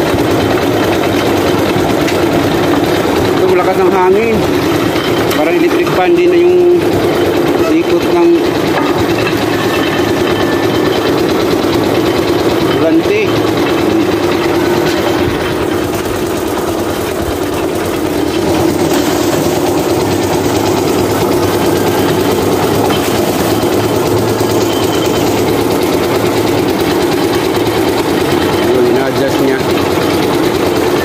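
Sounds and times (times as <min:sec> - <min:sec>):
fiber stripping machine running: 0:00.0 - 0:31.0.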